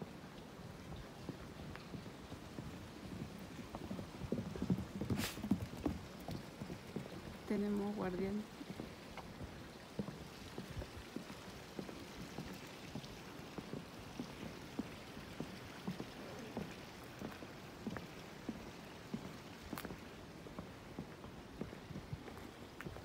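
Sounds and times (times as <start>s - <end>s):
footsteps on wooden boardwalk: 0.0s - 23.0s
steady soft hiss: 0.0s - 23.0s.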